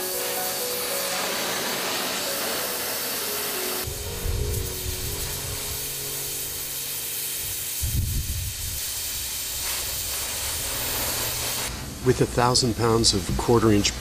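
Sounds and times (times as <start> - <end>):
gas torch flame hissing: 0.0 - 12.2.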